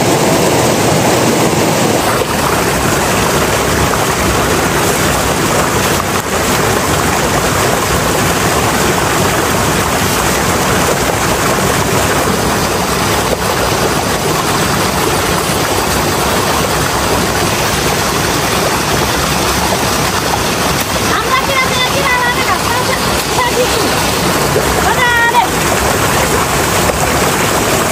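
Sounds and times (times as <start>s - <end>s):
rushing mountain stream: 0.0s - 27.9s.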